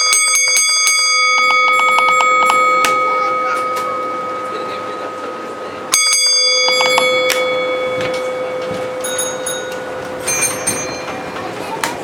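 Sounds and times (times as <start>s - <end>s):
bells struck and ringing: 0.0s - 12.0s.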